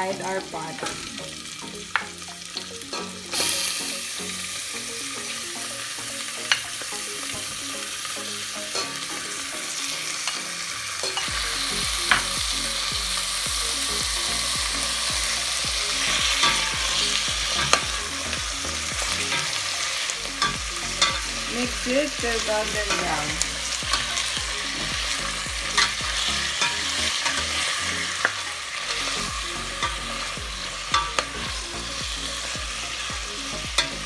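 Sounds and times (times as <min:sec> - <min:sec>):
chicken sizzling in hot oil: 0:00.0 - 0:34.0.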